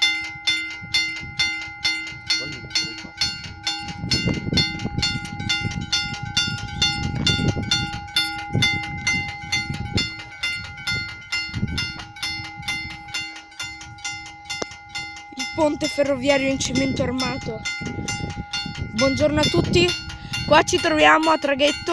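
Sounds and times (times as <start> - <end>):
level crossing bell ringing: 0.0 - 21.9
gusty low rumble: 0.3 - 21.9.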